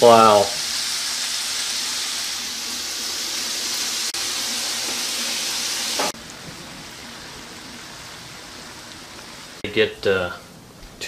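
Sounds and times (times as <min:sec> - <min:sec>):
mushrooms sizzling in a pan: 0:00.0 - 0:09.6.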